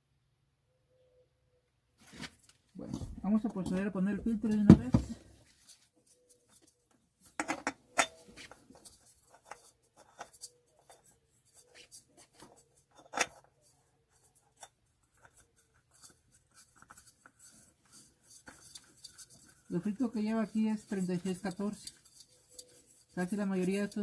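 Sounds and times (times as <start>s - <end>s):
light clicks and scrapes: 2.0s - 24.0s.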